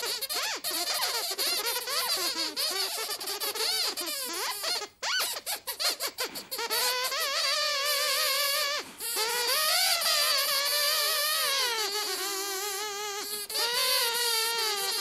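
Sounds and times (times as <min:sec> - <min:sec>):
puppet squeaker voices chattering: 0:00.0 - 0:15.0.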